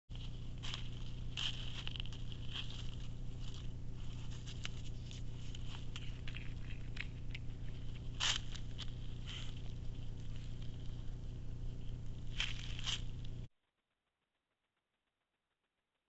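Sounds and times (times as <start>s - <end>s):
deer rustling in dry leaves: 0.1s - 13.5s
steady low hum: 0.1s - 15.2s.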